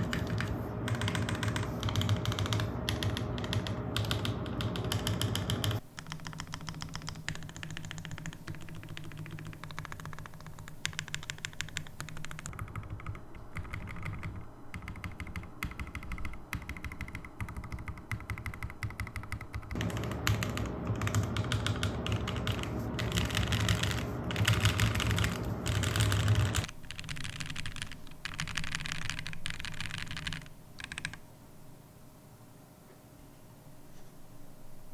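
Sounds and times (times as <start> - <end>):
mechanical keyboard typing: 0.0 - 31.2.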